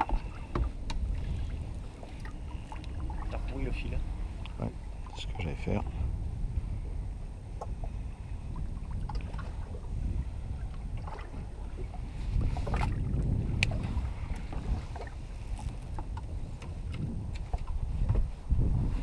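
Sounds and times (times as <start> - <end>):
water sloshing around boat: 0.0 - 19.0
wind rumble on microphone: 0.0 - 19.0.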